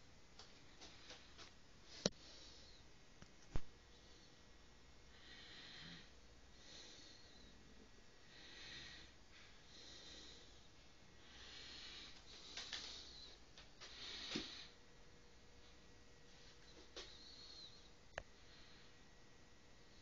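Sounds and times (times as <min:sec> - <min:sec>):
soft slow breathing: 0:00.5 - 0:02.9, 0:03.8 - 0:14.9, 0:15.6 - 0:19.2.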